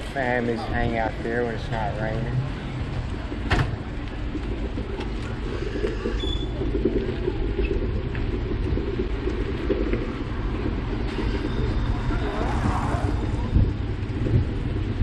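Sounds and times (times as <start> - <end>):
bicycle road noise: 0.0 - 15.0
wind buffeting microphone: 0.0 - 15.0.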